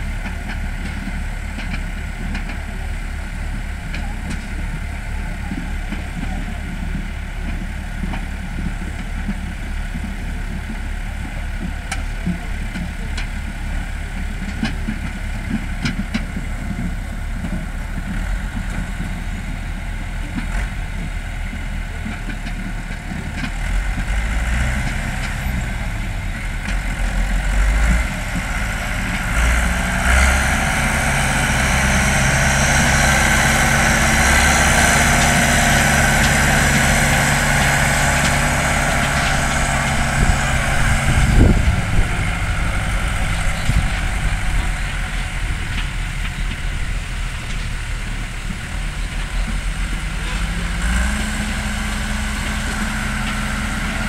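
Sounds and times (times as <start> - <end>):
tractor engines running: 0.0 - 54.0.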